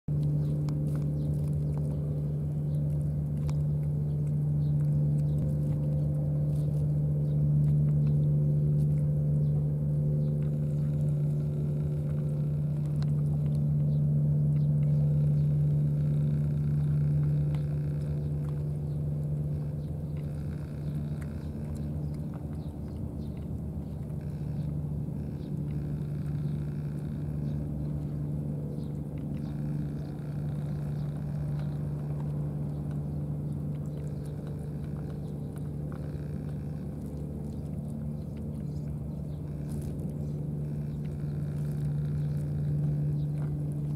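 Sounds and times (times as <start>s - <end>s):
cats chewing and licking: 0.1s - 43.9s
low engine hum: 0.1s - 43.9s.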